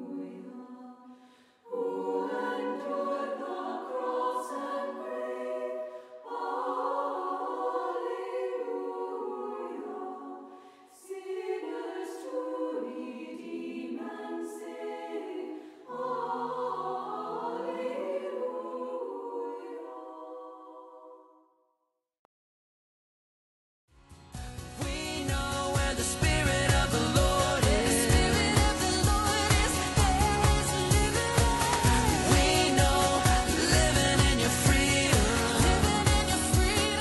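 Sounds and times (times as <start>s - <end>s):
choir singing sustained notes: 0.0s - 21.4s, 24.6s - 37.0s.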